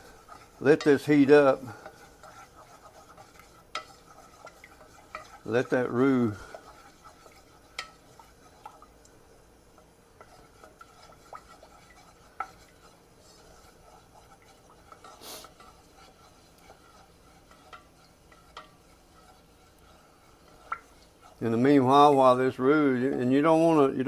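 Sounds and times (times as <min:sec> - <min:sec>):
utensil tapping and scraping a pan: 0:00.0 - 0:23.9.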